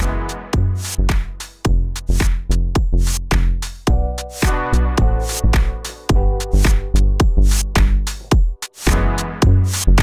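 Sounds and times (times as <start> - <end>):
electronic music with quick beat: 0.0 - 10.0.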